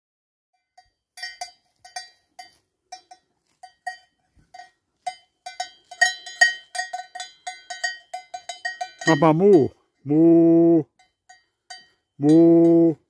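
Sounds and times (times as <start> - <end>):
cow bell clanking: 0.6 - 13.0.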